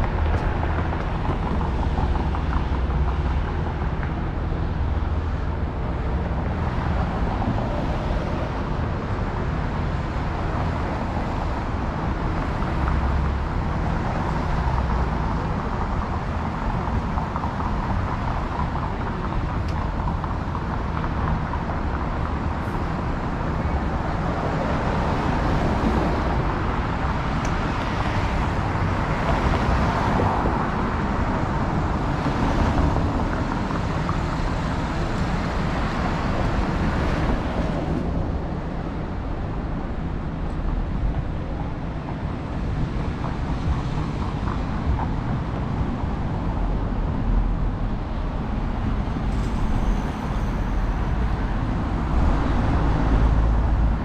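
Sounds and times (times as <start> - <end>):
cars going by: 0.0 - 54.0.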